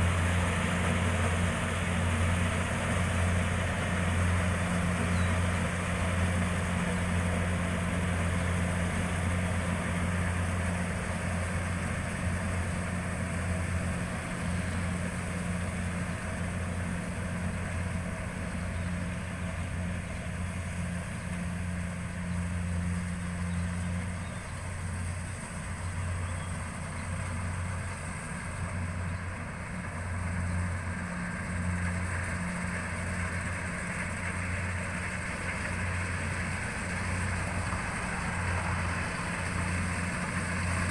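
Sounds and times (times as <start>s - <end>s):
harvester engine drone: 0.0s - 40.9s
machinery noise: 0.0s - 40.9s.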